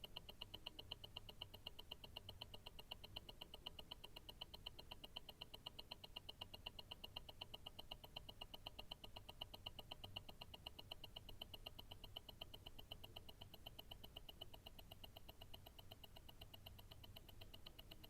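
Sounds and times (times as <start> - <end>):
watch ticking: 0.0 - 18.0.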